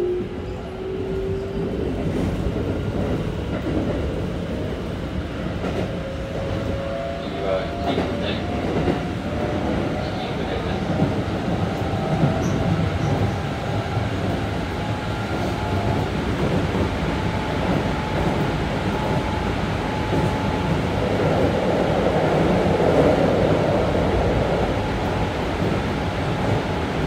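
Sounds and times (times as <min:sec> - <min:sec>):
train wheels rolling on rail: 0:00.0 - 0:27.0.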